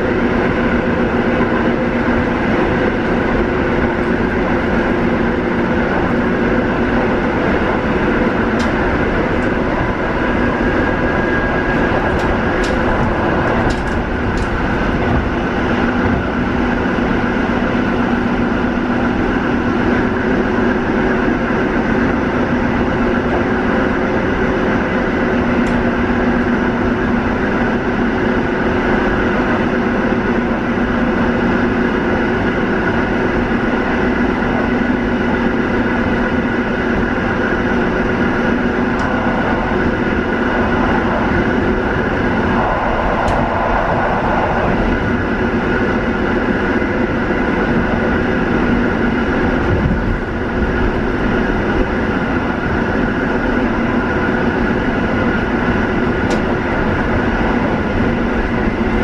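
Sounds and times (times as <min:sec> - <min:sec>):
electric train hum: 0:00.0 - 0:59.0
train wheels rumbling: 0:00.0 - 0:59.0.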